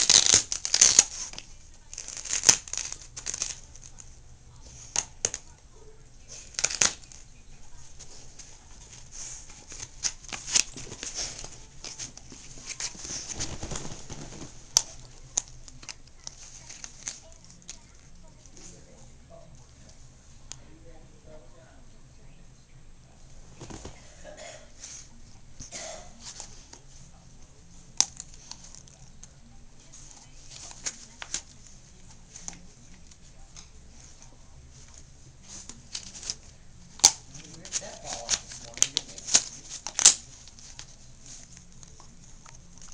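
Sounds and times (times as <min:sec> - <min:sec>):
dog chewing fabric toy: 0:00.0 - 0:18.9, 0:25.6 - 0:42.9.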